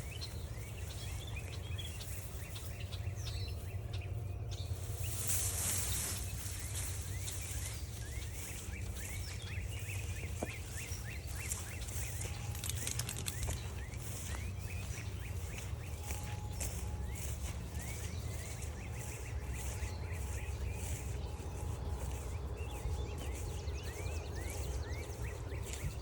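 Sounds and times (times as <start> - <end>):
songbird chirping: 0.0 - 26.0
steady low rumble: 0.0 - 26.0.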